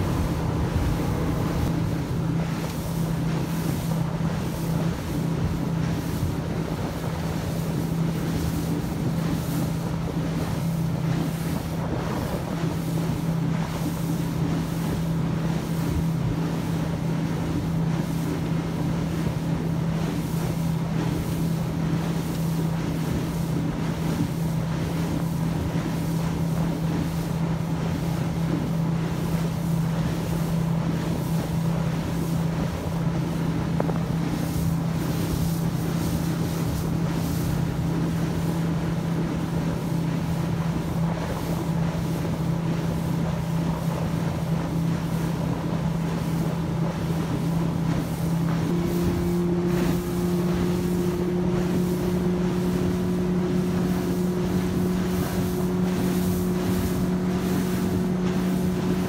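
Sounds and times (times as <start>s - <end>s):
motorboat motor droning: 0.0s - 59.0s
wind and water rushing: 0.0s - 59.0s.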